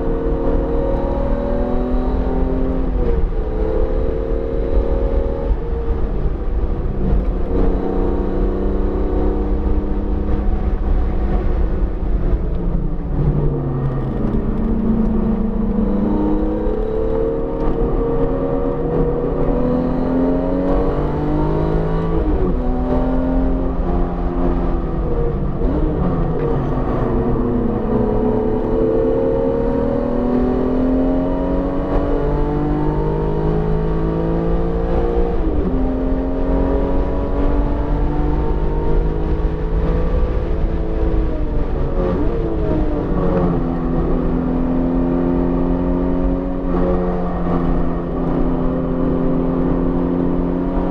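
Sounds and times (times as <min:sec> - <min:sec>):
car engine accelerating on track: 0:00.0 - 0:50.9
low rumble of road noise: 0:00.0 - 0:50.9.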